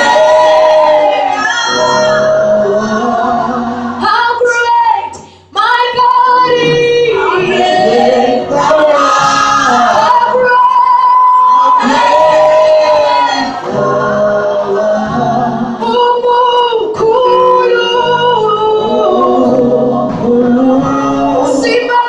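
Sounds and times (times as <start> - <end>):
group of singers: 0.0 - 4.3, 5.6 - 22.0
woman singing lead: 0.0 - 14.2, 15.2 - 22.0.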